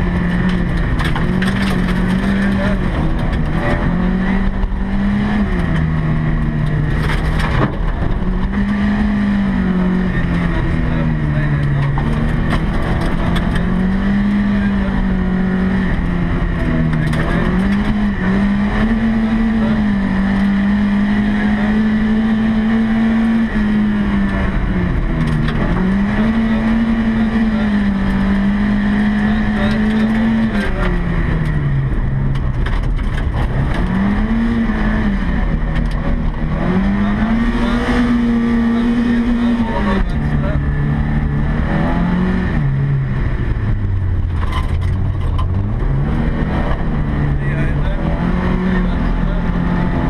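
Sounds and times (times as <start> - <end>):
car engine revving: 0.0 - 50.0
tyres rumbling on gravel: 0.0 - 50.0.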